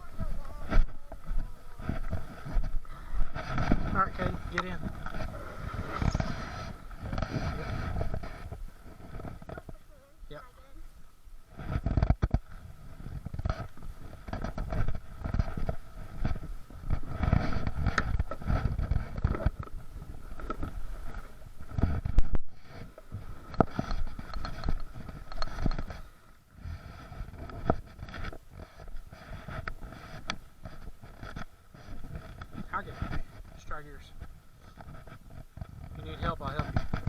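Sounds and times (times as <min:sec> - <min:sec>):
kayak hulls knocking and scraping: 0:00.0 - 0:37.0.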